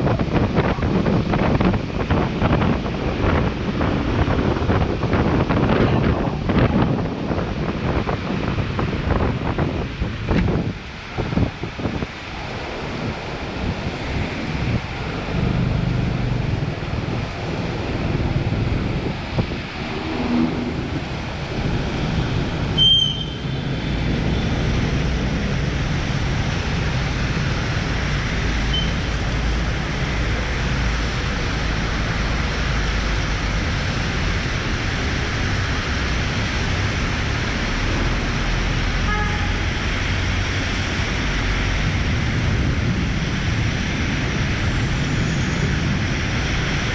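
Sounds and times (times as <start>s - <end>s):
wind and road noise: 0.0s - 46.9s.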